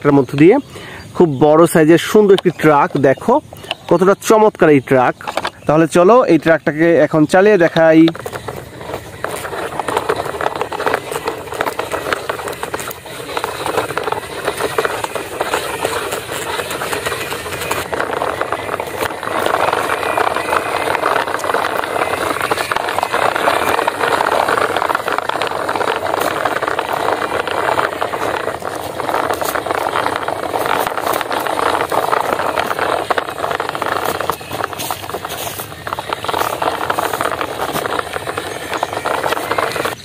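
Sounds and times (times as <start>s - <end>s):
plastic toy truck rattling: 1.5s - 40.0s.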